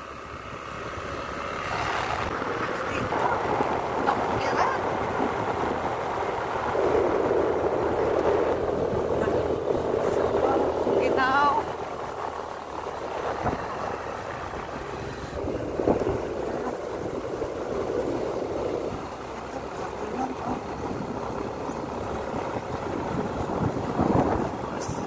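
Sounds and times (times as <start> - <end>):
moving vehicle road noise: 0.0 - 25.0.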